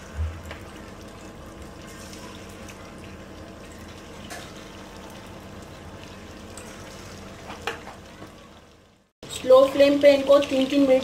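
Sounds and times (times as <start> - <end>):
deep-frying sizzle: 0.0 - 11.0.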